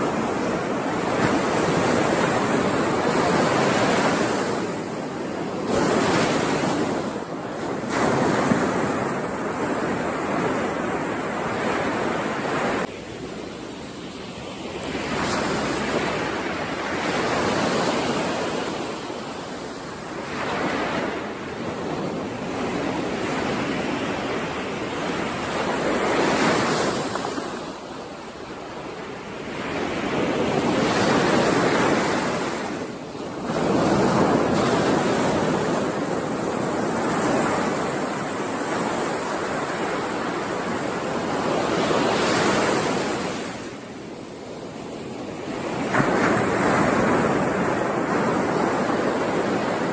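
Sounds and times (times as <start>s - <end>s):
ocean waves breaking on shore: 0.0s - 49.9s.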